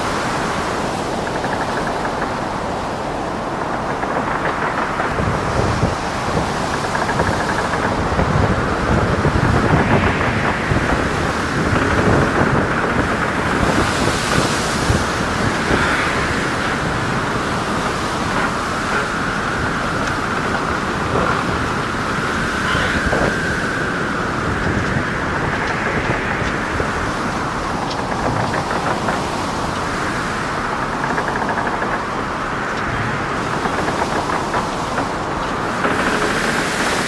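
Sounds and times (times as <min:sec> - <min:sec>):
wind blowing against microphone: 0:00.0 - 0:37.0.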